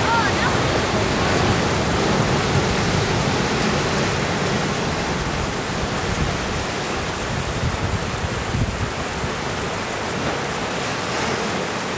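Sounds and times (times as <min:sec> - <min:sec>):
surf breaking over rocks: 0:00.0 - 0:11.9.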